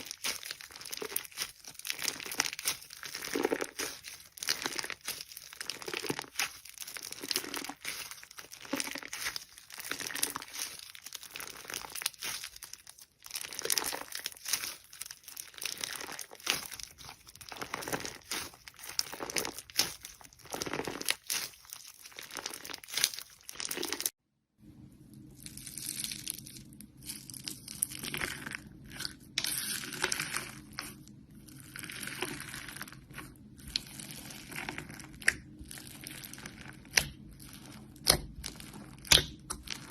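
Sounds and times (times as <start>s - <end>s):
slime crackling and squishing: 0.0s - 24.2s, 25.0s - 39.9s.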